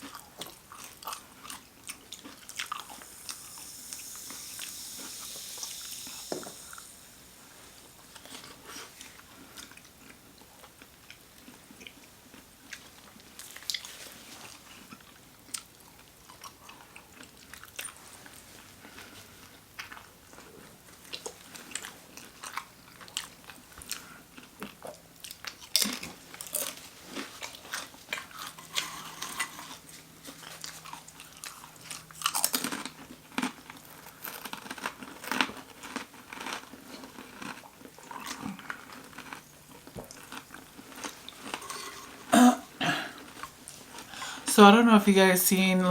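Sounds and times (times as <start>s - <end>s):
chewing and biting sandwich: 0.0s - 5.6s, 8.2s - 41.7s.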